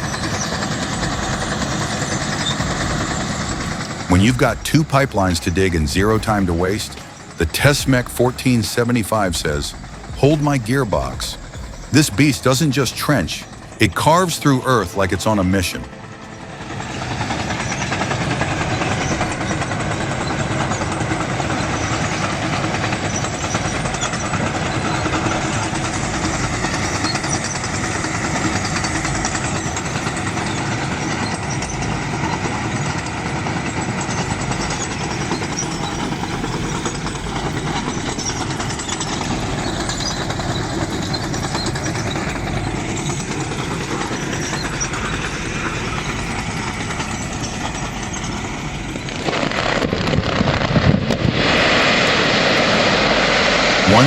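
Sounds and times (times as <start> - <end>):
trencher running under load: 0.0 - 52.6.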